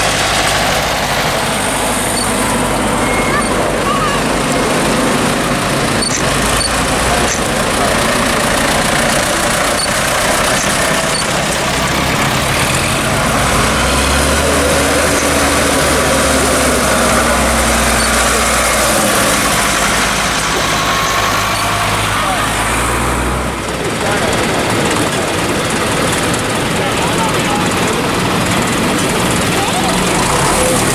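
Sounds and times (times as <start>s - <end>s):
tractor diesel engine drone: 0.0s - 30.9s.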